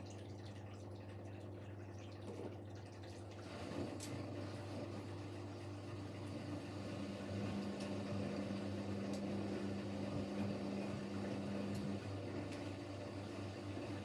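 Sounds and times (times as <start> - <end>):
washing machine hum: 0.0 - 14.0.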